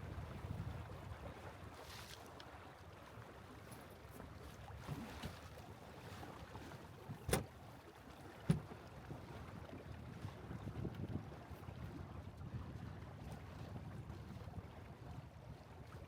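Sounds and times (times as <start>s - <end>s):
water splashing against boat: 0.0s - 16.0s
wind: 0.0s - 16.0s.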